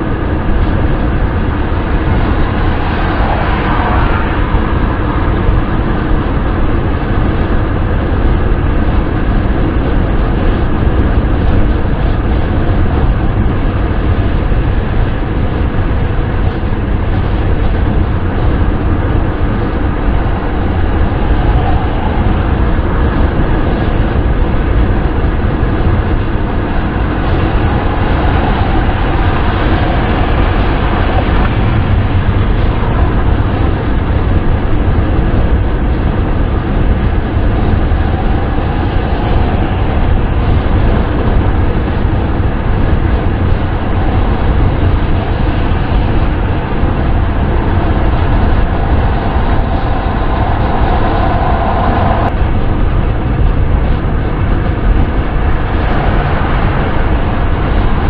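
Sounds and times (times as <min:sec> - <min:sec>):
car driving at speed: 0:00.0 - 0:58.0.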